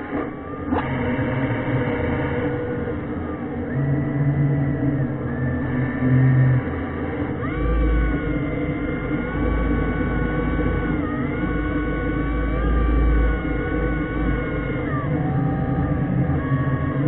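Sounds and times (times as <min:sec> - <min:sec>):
electric thruster motors whining: 0:00.0 - 0:17.0.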